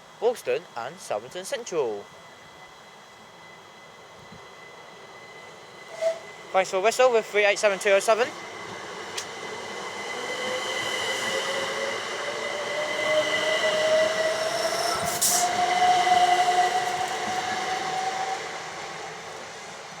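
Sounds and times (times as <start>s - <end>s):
electric train motors whining: 2.7s - 20.0s.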